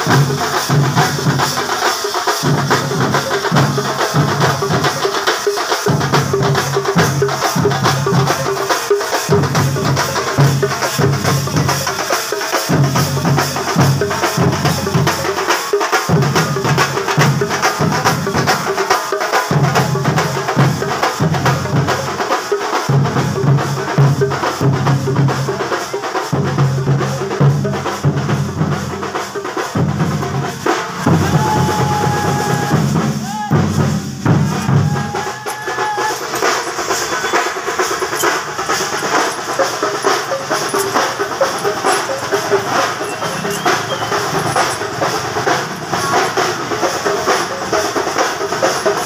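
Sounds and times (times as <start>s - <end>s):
fast loud drumming: 0.0s - 49.0s.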